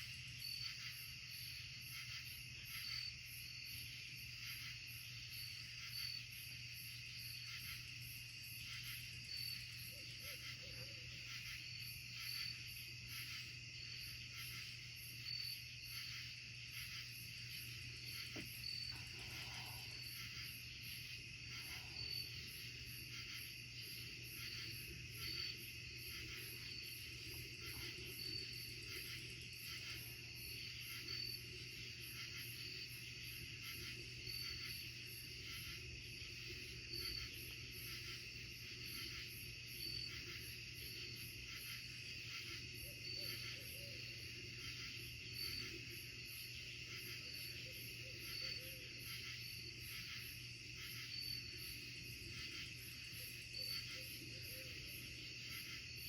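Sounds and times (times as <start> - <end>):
insect chirp: 0.0 - 56.0
insects trilling: 0.0 - 56.0.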